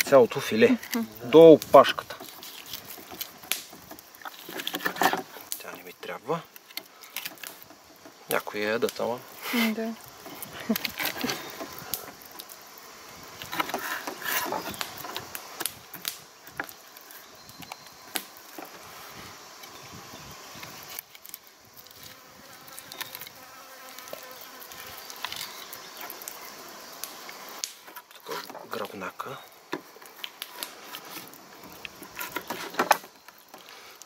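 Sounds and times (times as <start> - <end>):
insect buzz: 0.0 - 34.0.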